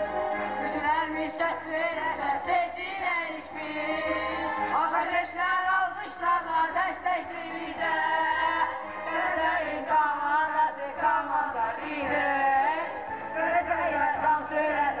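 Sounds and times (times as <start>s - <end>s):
instrumental backing with bass beat: 0.0s - 14.9s
people singing into microphones: 0.0s - 15.0s.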